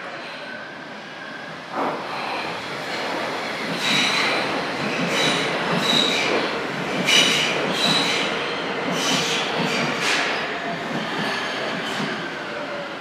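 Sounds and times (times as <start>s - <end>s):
train rumbling: 1.6s - 13.0s.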